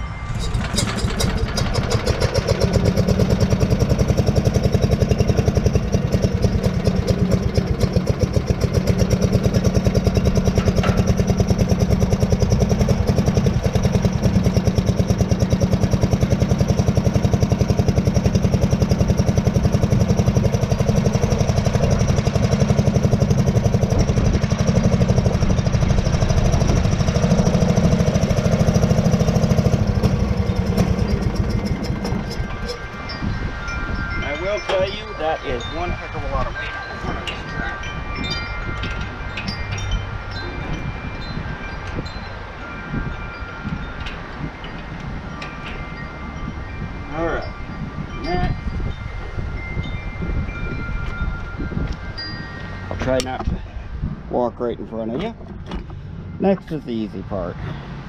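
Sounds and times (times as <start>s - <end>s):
garden tractor engine running: 0.1s - 58.0s.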